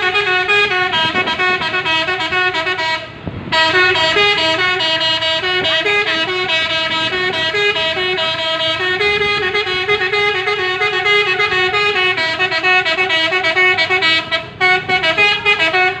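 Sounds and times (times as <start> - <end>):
truck musical horn playing tune: 0.0 - 16.0.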